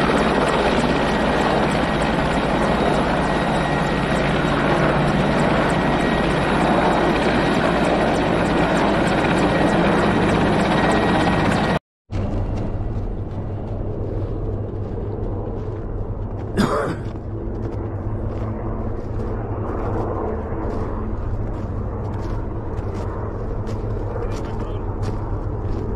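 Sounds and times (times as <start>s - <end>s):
helicopter engines and rotor: 0.0s - 25.9s.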